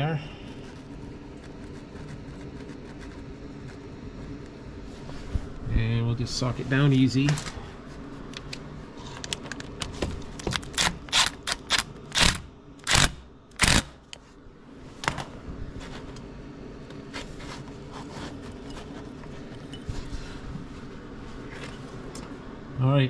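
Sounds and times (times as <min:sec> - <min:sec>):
low steady background noise: 0:00.0 - 0:23.0.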